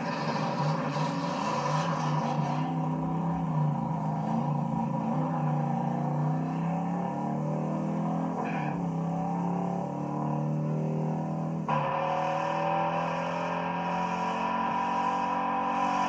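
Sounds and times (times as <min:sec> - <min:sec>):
muscle car engines revving hard: 0:00.0 - 0:16.0.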